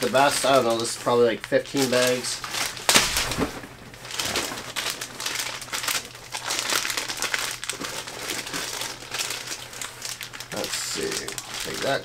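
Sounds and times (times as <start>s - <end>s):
plastic packs crinkling: 0.0s - 12.0s.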